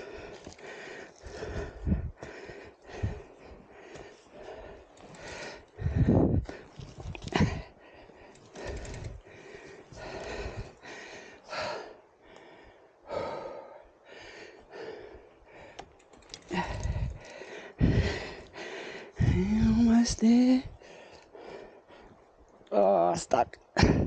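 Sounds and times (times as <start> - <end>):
person breathing hard: 0.0 - 19.9, 20.6 - 22.4.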